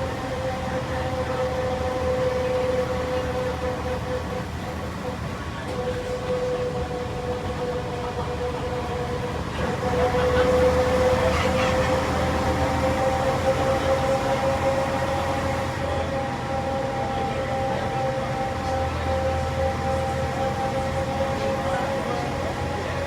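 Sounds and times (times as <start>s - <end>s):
bus engine whine and rumble: 0.0s - 23.0s.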